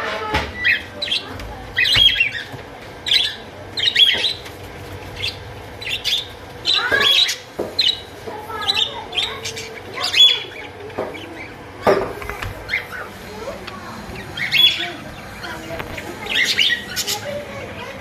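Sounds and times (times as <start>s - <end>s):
budgerigars chirping and squawking: 0.6s - 18.0s.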